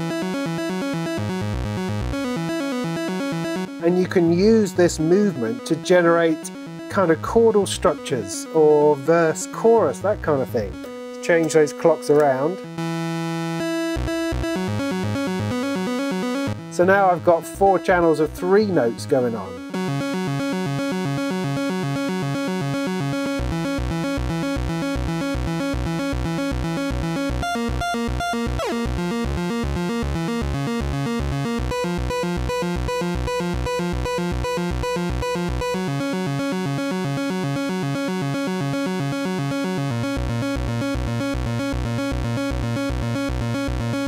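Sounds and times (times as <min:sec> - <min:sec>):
pulsing bass line: 0:00.0 - 0:44.0
synthesizer sequence: 0:00.0 - 0:44.0.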